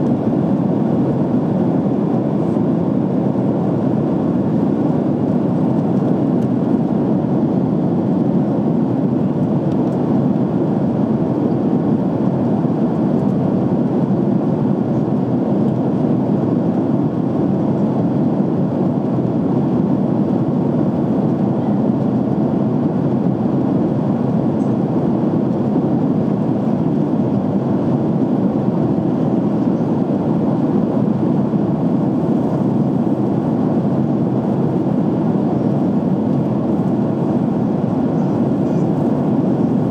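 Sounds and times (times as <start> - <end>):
airliner cabin noise: 0.0 - 39.9.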